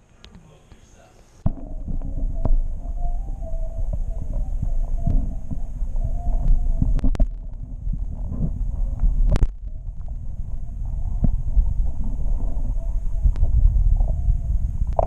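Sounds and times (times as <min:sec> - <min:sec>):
faint wavering hum: 0:01.4 - 0:15.0
muffled underwater rumble: 0:01.5 - 0:15.0.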